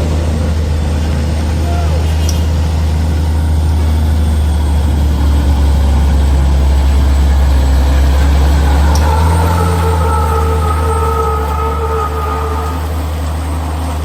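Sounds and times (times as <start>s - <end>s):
heavy truck engine droning: 0.0s - 14.0s.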